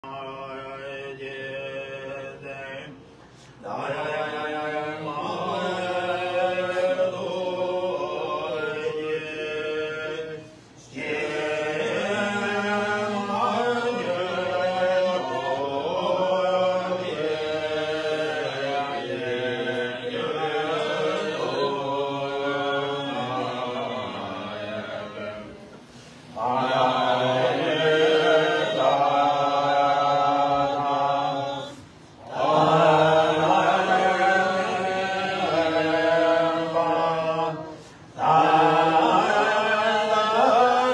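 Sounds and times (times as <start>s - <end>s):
group chanting prayers in unison: 0.0s - 40.9s.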